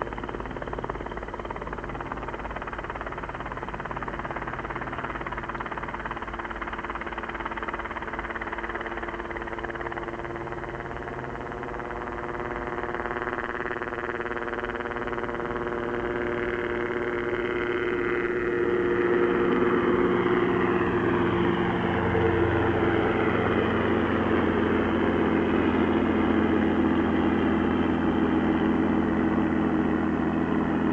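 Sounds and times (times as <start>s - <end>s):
helicopter engine and rotor: 0.0s - 30.9s.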